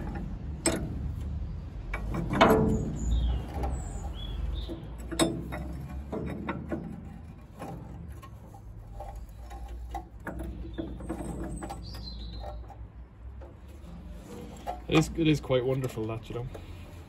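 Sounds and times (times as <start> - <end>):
spanner metal clicks and scrapes: 0.0 - 17.0.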